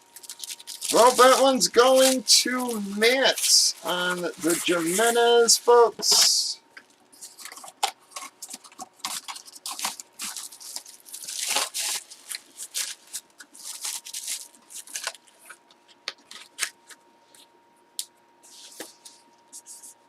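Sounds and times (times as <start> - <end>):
packaging and paper crinkling: 0.0 - 17.5.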